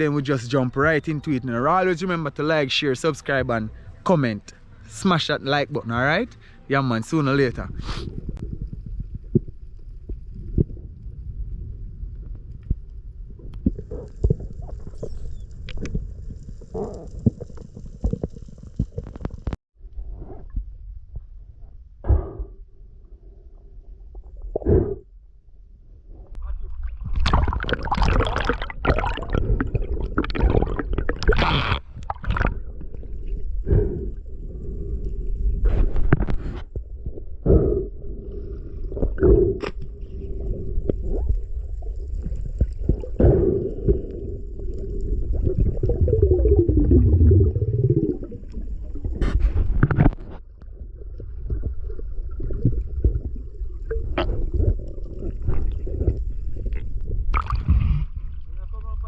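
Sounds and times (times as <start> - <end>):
water gurgling and sloshing: 7.0 - 59.0
low rumble: 7.3 - 59.0.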